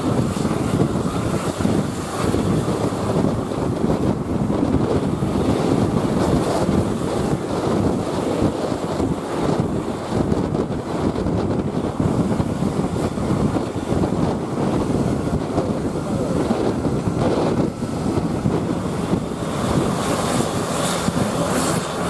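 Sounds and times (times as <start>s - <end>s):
road and engine noise: 0.0s - 22.0s
wind buffeting microphone: 0.0s - 22.0s.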